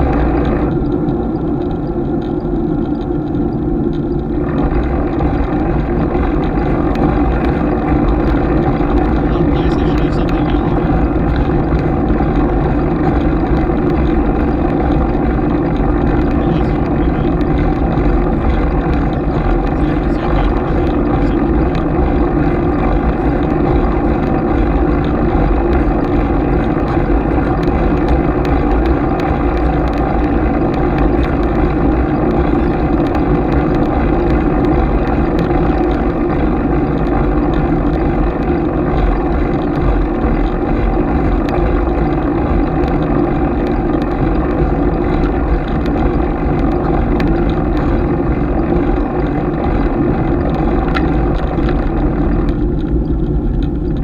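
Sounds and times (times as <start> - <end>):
tyre and road rumble: 0.0 - 54.0
wind on camera: 0.0 - 54.0.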